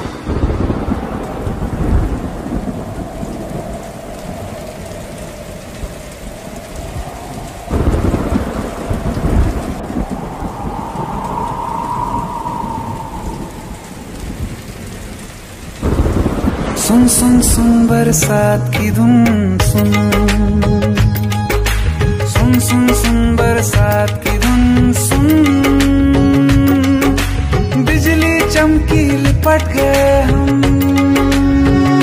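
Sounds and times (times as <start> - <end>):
thunder rumbling: 0.0 - 26.9
heavy rain pouring: 0.0 - 32.0.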